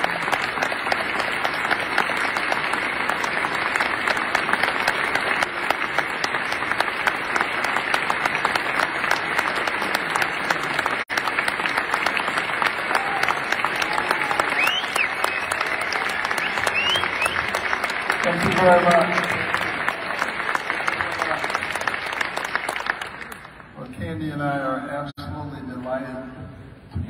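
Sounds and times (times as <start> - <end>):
audience applauding: 0.0 - 23.8.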